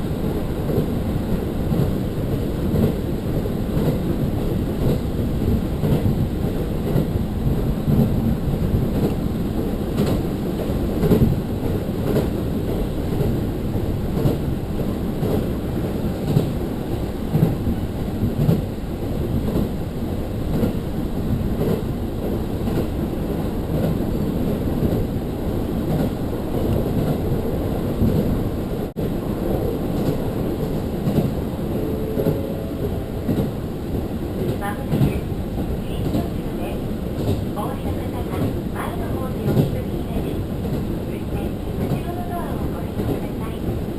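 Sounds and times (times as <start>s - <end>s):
railcar rumble: 0.0s - 43.9s.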